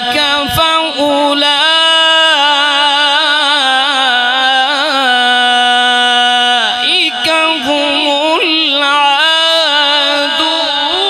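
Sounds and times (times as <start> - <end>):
man reciting melodically into microphone: 0.0 - 11.0.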